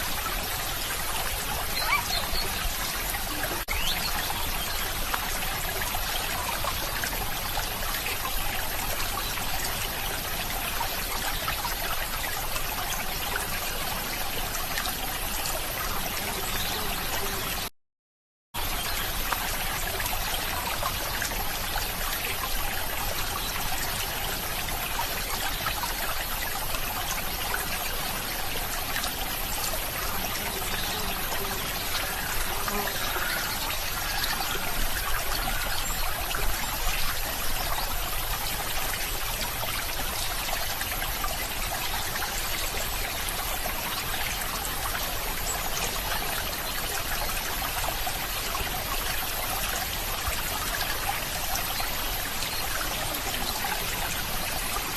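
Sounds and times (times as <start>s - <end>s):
water trickling and splashing: 0.0s - 17.7s, 18.6s - 54.9s.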